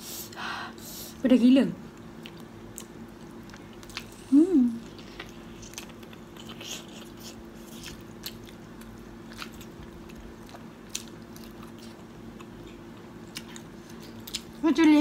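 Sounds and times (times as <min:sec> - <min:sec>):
faint hum: 0:00.0 - 0:15.0
people chewing chicken: 0:01.9 - 0:15.0.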